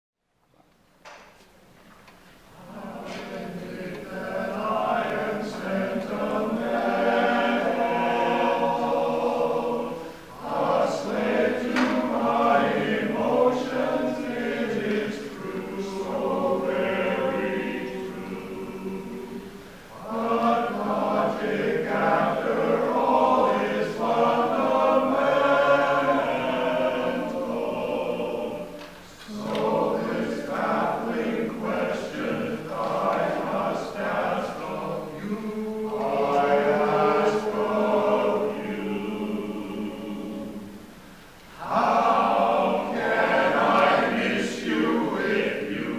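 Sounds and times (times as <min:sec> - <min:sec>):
men's chorus singing: 0:02.6 - 0:40.9, 0:41.5 - 0:45.9.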